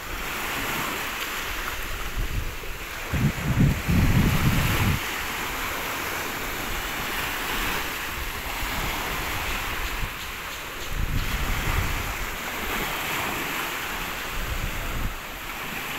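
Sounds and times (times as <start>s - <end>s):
small waves washing over rocky shore: 0.0s - 15.9s
wind gusts on microphone: 0.0s - 15.9s.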